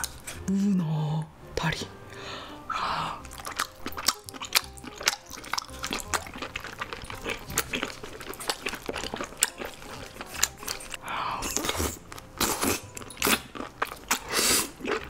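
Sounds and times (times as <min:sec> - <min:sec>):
wet chewing and lip smacking: 0:00.0 - 0:00.5, 0:03.2 - 0:15.0.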